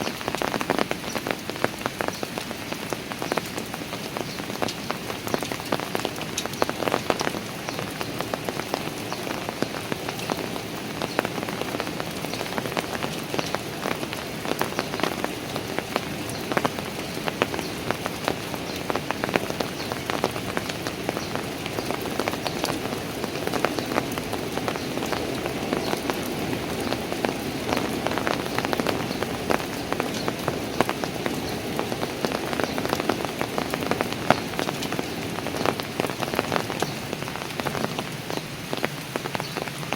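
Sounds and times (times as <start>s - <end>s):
rain on paving: 0.0s - 39.9s
sharp drips and splashes: 0.0s - 39.9s.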